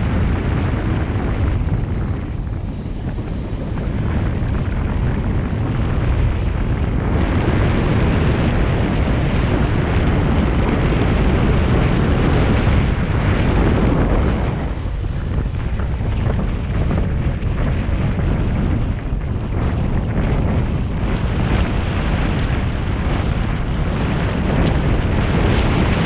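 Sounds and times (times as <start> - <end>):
wind and road noise rumble: 0.0 - 26.0.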